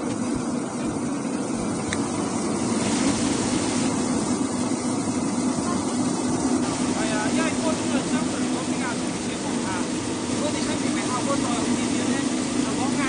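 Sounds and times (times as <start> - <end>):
low motor hum: 0.0 - 13.0
water spraying: 0.0 - 13.0.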